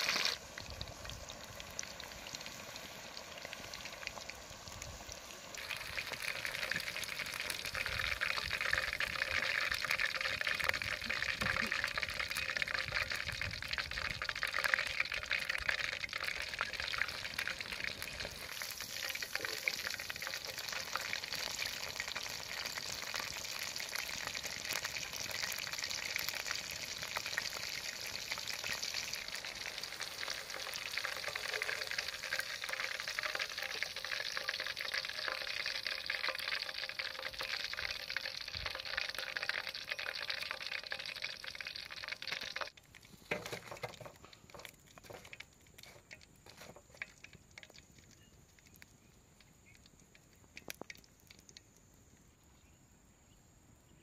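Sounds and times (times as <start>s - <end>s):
food sizzling in hot oil: 0.0s - 49.8s.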